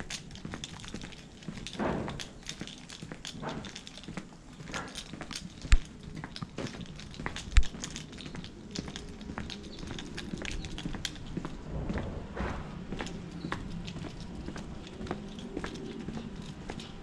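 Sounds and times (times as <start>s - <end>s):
footsteps on asphalt: 0.0s - 17.0s.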